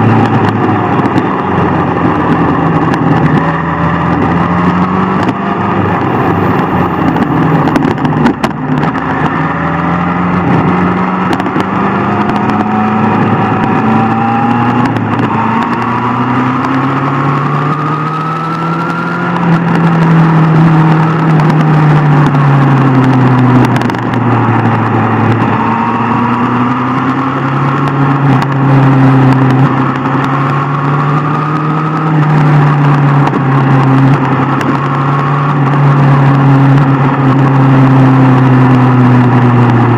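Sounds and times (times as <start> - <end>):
motorcycle engine running hard: 0.0 - 39.9
rush of riding noise: 0.0 - 39.9.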